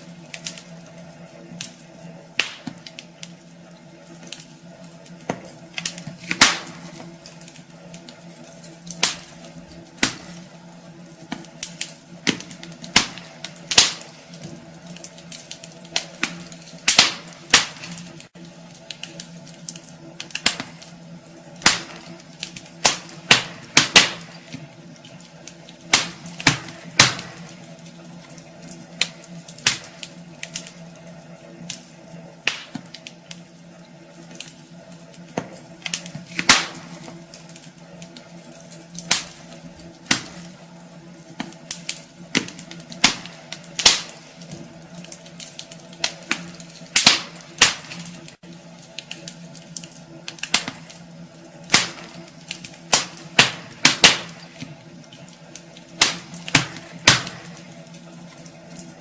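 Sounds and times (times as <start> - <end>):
low steady hum: 0.0 - 59.0
wood fire crackling and popping: 0.0 - 59.0.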